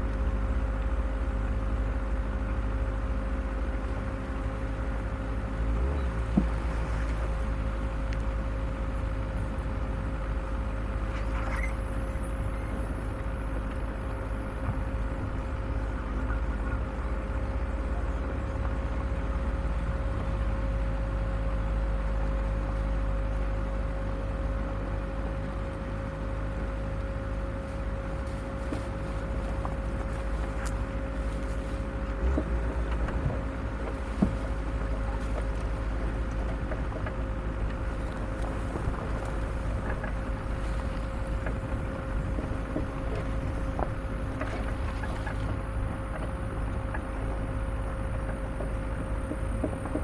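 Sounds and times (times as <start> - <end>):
off-road vehicle engine rumbling: 0.0 - 50.0
thin engine whine: 0.0 - 50.0.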